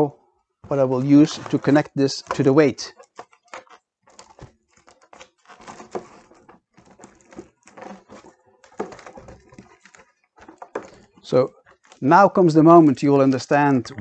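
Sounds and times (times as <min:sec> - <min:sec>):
balloon rustling and rubbing: 0:00.6 - 0:12.6.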